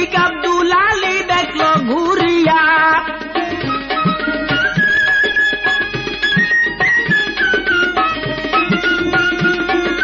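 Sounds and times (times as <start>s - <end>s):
hand drum beat: 0.0s - 10.0s
ornamented folk melody instrument: 0.0s - 10.0s.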